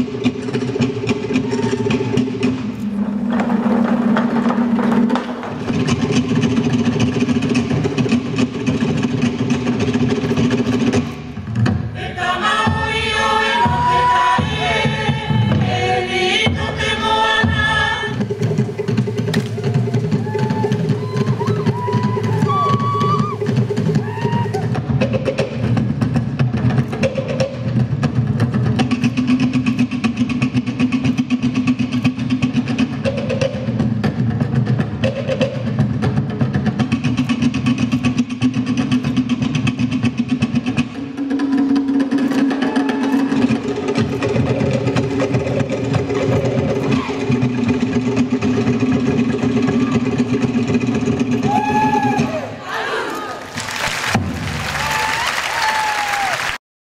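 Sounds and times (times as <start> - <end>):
wooden slit drums struck rapidly: 0.0 - 11.9, 12.7 - 52.4, 54.1 - 56.3
steady low drumming: 0.0 - 52.5.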